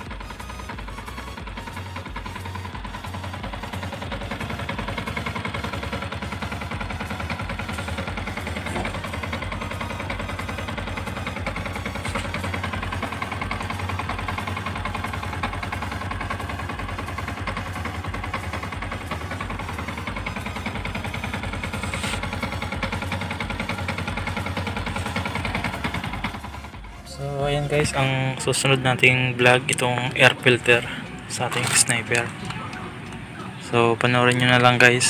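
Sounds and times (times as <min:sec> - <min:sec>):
motorcycle engine idling: 0:00.0 - 0:35.0.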